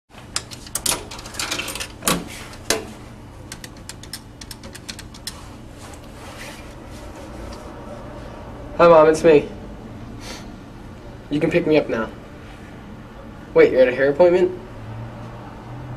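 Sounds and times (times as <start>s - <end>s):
steady low hum: 0.1s - 14.8s.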